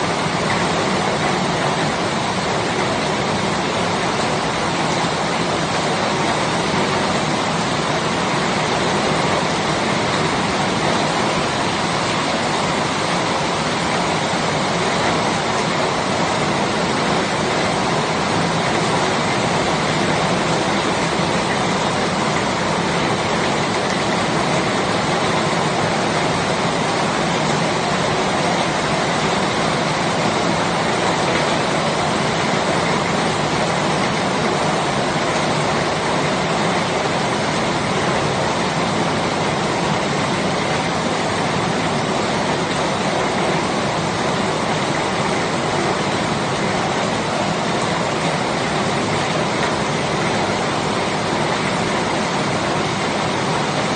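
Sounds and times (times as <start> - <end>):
heavy rain hiss: 0.0 - 53.9.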